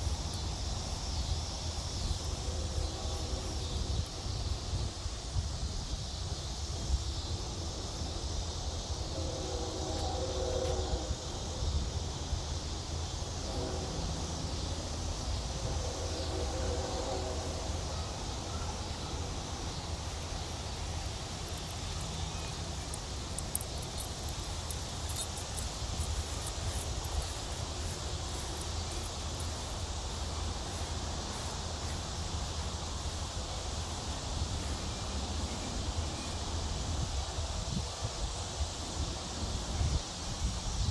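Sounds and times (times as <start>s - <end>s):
wind rumble on microphone: 0.0s - 40.9s.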